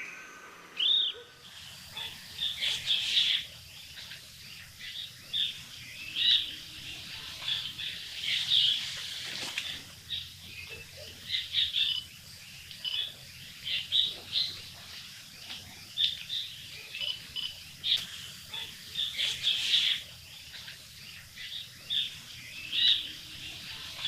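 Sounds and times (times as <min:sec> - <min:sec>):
nuthatch calling: 0:00.0 - 0:14.8, 0:15.9 - 0:24.0.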